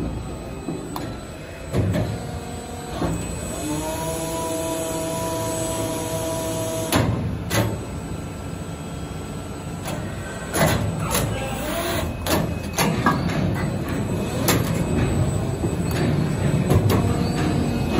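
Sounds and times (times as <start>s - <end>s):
machine hum: 0.0s - 17.9s.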